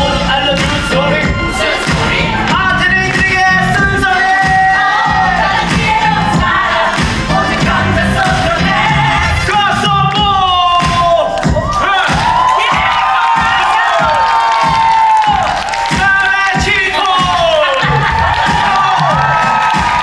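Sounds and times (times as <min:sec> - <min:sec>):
band accompaniment: 0:00.0 - 0:20.0.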